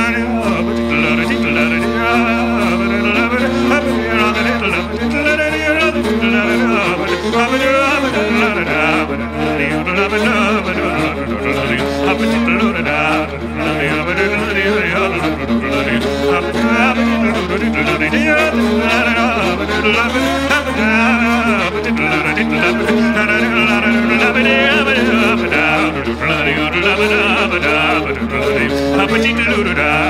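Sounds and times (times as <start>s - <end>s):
ornamented folk melody: 0.0s - 30.0s.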